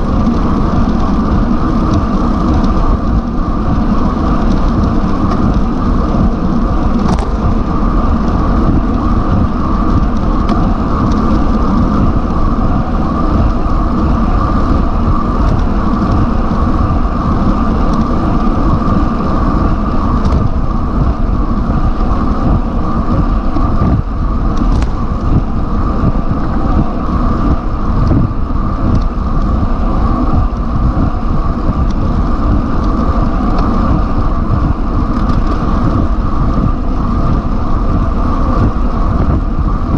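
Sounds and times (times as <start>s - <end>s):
bike tyres on asphalt: 0.0s - 39.9s
wind noise on microphone: 0.0s - 39.9s.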